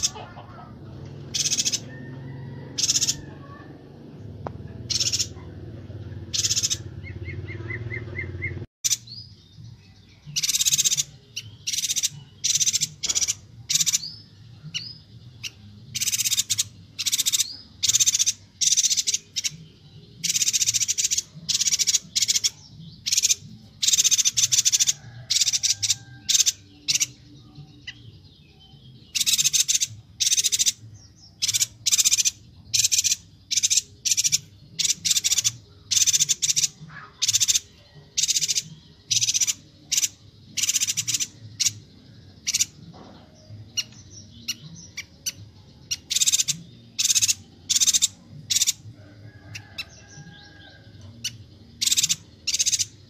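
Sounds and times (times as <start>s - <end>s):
bird high-pitched chirps: 1.3s - 3.7s, 4.8s - 5.5s, 6.1s - 9.4s, 10.2s - 53.0s.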